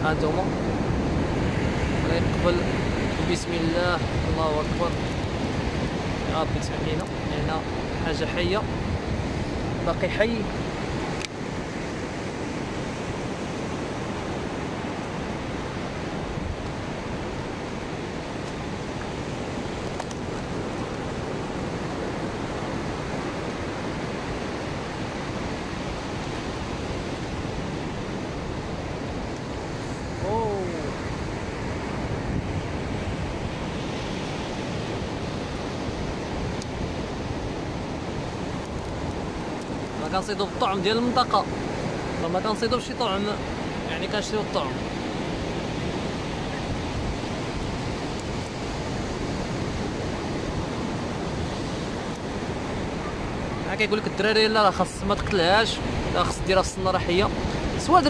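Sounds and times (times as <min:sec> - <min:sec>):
ocean surf breaking on beach: 0:00.0 - 0:58.0
wind: 0:00.0 - 0:58.0.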